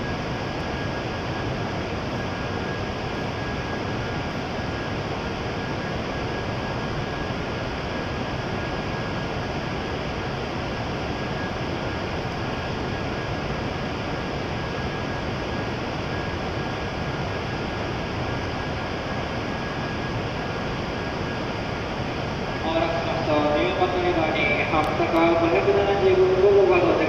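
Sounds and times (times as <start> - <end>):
station platform rumble and hiss: 0.0 - 27.0.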